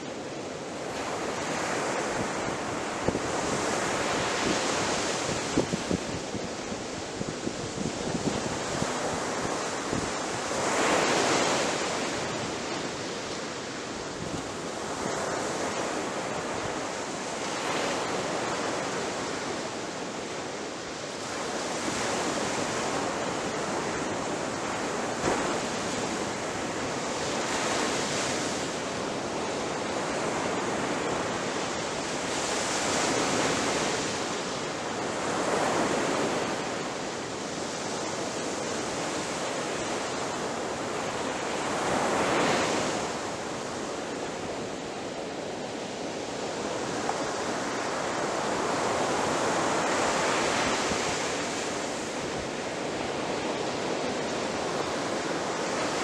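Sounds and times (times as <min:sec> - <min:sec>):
ocean waves crashing on beach: 0:00.0 - 0:56.0.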